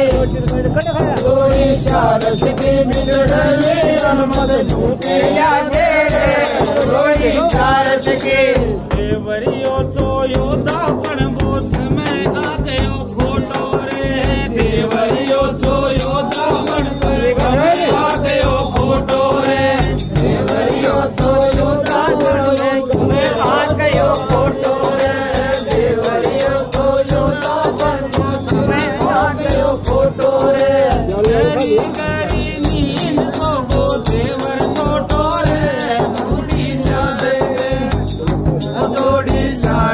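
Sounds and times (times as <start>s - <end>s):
frame drum beating: 0.0s - 39.9s
men singing folk song: 0.0s - 39.9s.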